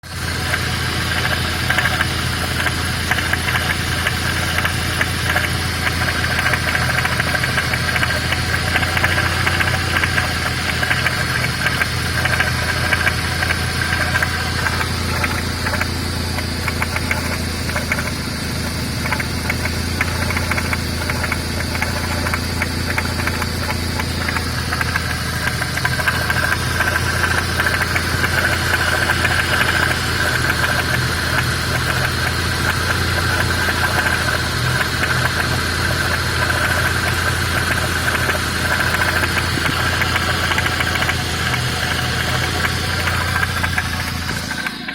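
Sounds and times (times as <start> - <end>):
car engine idling: 0.0 - 44.9
higher whine: 0.0 - 44.9
rapid knocking: 0.2 - 44.9.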